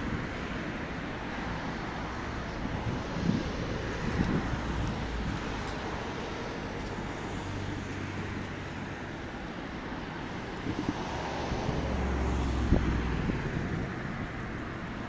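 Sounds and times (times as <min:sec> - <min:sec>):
outdoor engine noise: 0:00.0 - 0:15.0.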